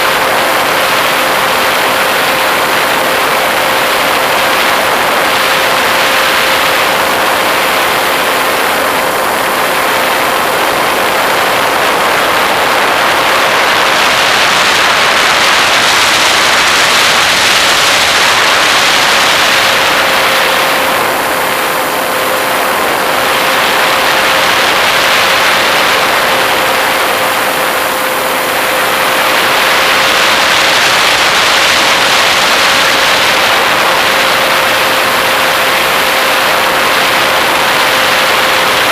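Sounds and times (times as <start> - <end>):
propeller aircraft engine running: 0.0 - 38.9
rush of wind over camera: 0.0 - 38.9.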